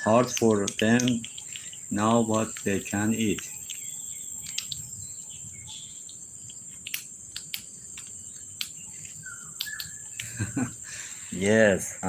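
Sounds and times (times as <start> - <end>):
sharp clicks: 0.0 - 5.1, 5.7 - 10.6
crickets buzzing: 0.0 - 12.0.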